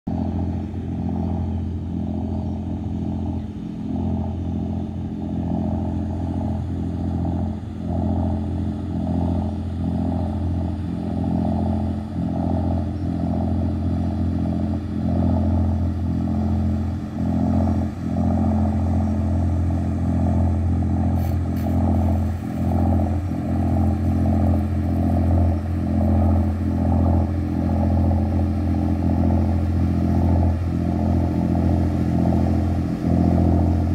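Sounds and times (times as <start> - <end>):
boat engine humming: 0.0 - 33.9.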